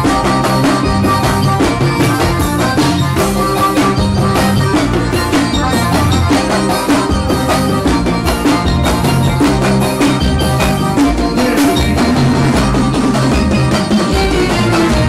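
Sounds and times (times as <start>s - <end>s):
live band playing loudly: 0.0s - 15.0s.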